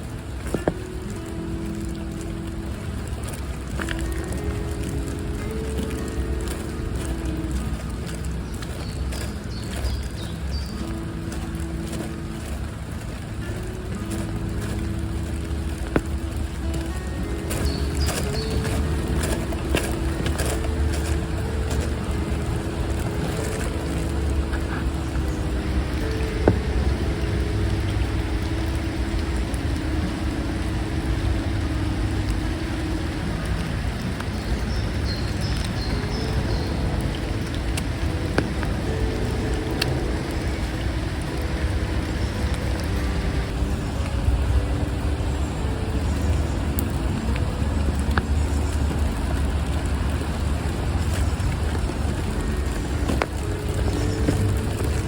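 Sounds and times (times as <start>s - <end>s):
rain falling in forest: 0.0s - 55.0s
water drips ticking: 0.0s - 55.0s.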